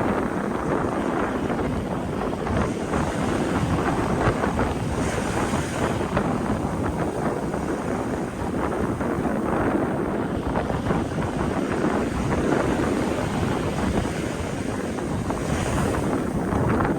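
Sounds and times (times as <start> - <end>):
sea waves washing: 0.0 - 16.9
wind buffeting microphone: 0.0 - 16.9.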